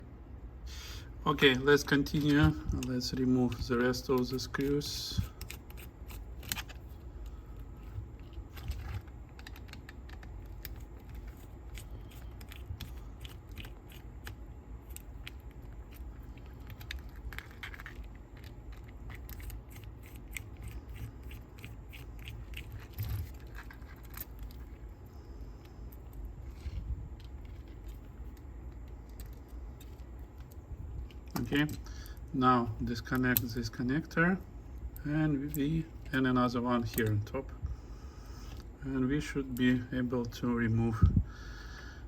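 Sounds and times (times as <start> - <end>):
low background rumble: 0.0 - 42.0.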